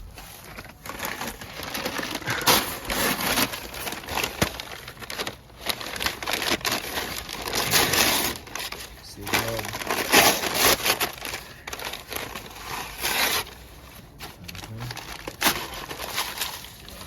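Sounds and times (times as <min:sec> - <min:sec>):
newspaper being crumpled: 0:00.0 - 0:17.0.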